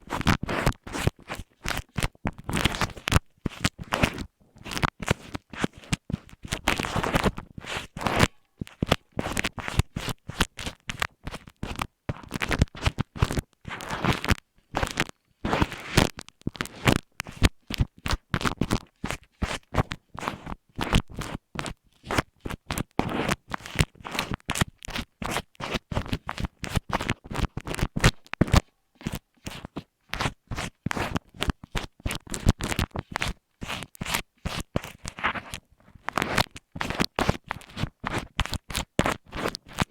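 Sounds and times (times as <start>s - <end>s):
scratching against microphone: 0.0s - 39.9s.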